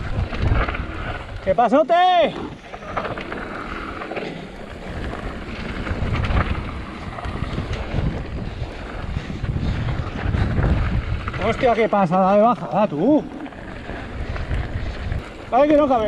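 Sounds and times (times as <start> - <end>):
bike rattling over bumps: 0.0 - 16.0
bike tyres crunching on dirt: 0.0 - 16.0
wind buffeting microphone: 0.0 - 16.0.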